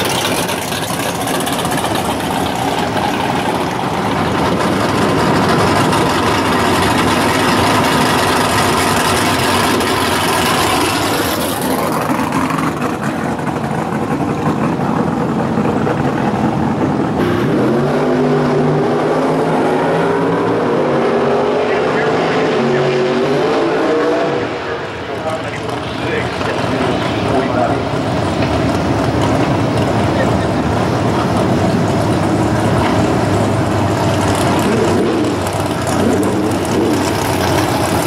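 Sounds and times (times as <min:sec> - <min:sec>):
drag car engines revving: 0:00.0 - 0:38.0
engine climbing in pitch: 0:00.0 - 0:38.0.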